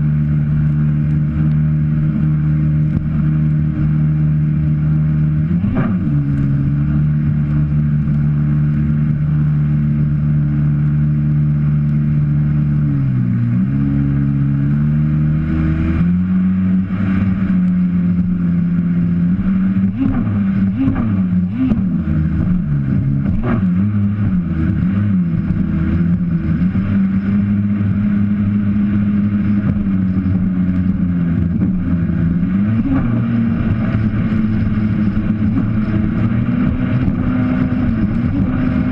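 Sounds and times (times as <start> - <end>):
jet ski engine running: 0.0 - 38.9.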